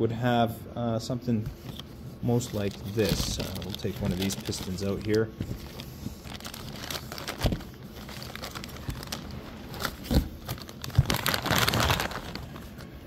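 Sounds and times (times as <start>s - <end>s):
plastic bags crinkling: 2.3s - 13.0s.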